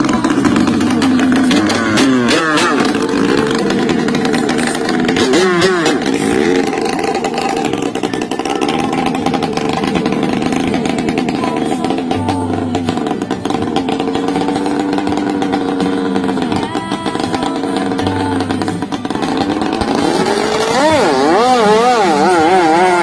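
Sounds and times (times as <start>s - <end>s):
boat engine running at high revs: 0.0s - 23.0s.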